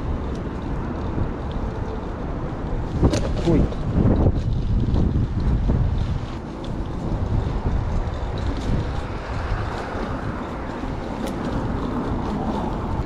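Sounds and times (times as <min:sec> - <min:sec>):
city traffic rumble: 0:00.0 - 0:13.0
vehicle passing: 0:00.0 - 0:13.0
wind buffeting microphone: 0:00.0 - 0:13.0.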